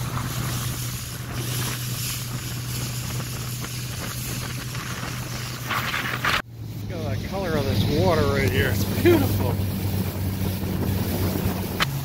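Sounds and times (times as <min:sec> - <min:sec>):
motorboat engine drone: 0:00.0 - 0:12.0
water rushing past hull: 0:00.0 - 0:12.0
wind on microphone: 0:00.0 - 0:12.0.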